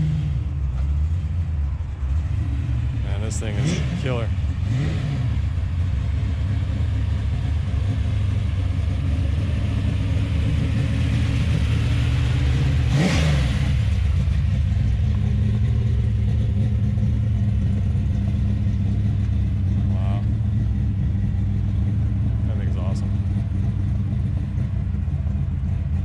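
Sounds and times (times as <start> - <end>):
car engine idling: 0.0 - 26.0
car engine revving: 0.0 - 26.0.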